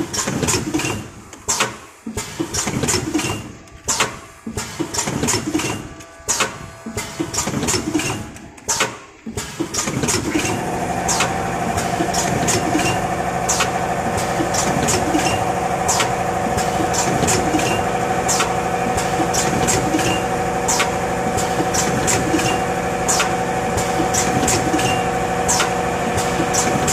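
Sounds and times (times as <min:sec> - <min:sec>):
packing machine whine: 0:00.0 - 0:26.9
sharp mechanical clicks: 0:00.0 - 0:26.9.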